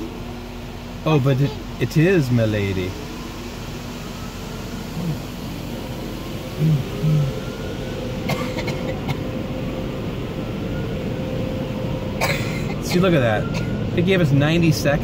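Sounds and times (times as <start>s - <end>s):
car wash machinery running: 0.0s - 15.0s
low hums: 0.0s - 15.0s.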